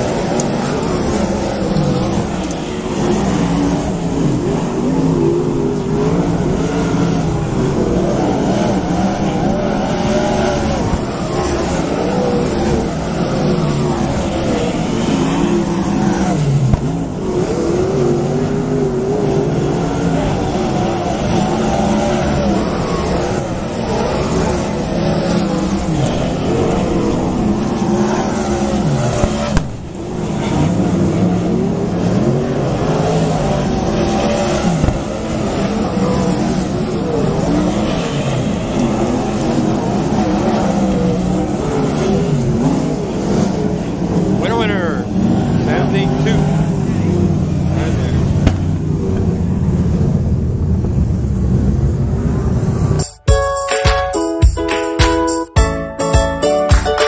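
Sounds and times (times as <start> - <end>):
race car engines passing: 0.0 - 53.2.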